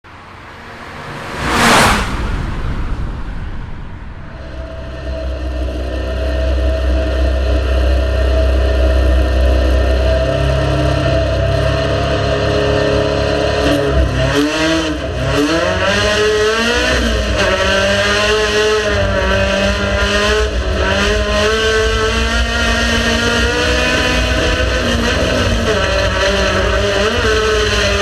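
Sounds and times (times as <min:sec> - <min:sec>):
race car engine accelerating: 0:00.0 - 0:28.0.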